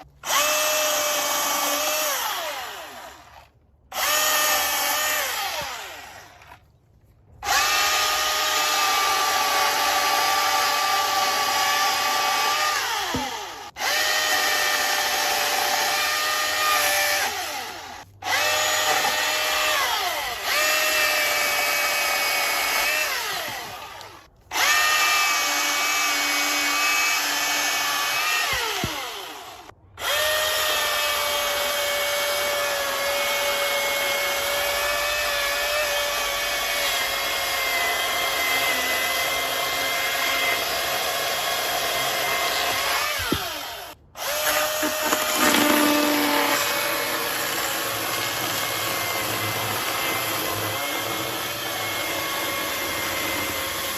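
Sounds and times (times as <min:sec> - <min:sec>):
chainsaw motor whining: 0:00.0 - 0:06.7, 0:07.4 - 0:53.9.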